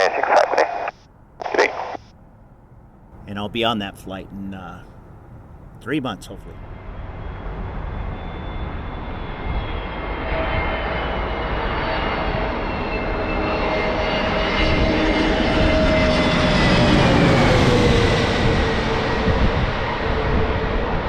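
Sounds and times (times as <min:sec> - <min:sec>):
jet engines at takeoff power: 0:00.0 - 0:03.1, 0:04.9 - 0:21.0.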